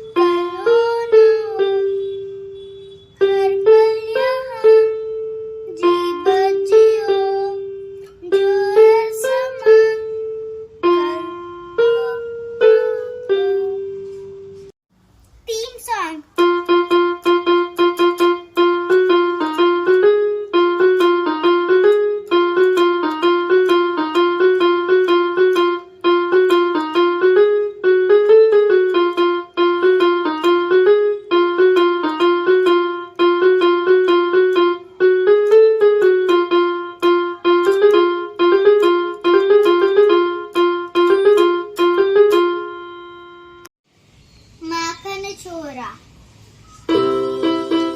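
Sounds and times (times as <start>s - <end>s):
electronic keyboard piano melody: 0.0s - 14.8s, 16.4s - 43.7s, 46.7s - 47.9s.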